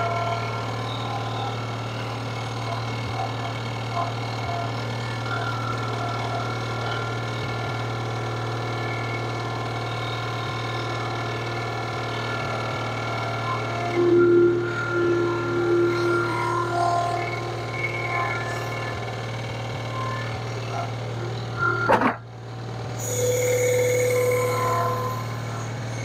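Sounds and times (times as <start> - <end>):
loader engine droning: 0.0 - 26.0.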